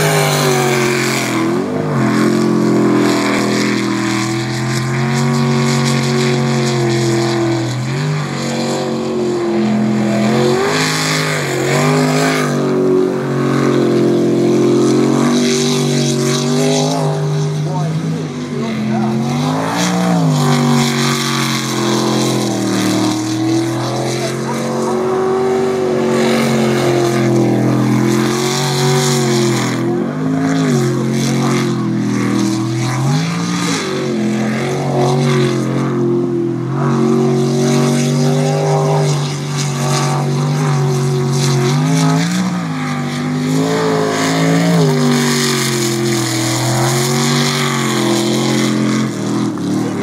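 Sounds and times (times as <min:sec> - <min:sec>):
racing boat engine revving: 0:00.0 - 0:50.0.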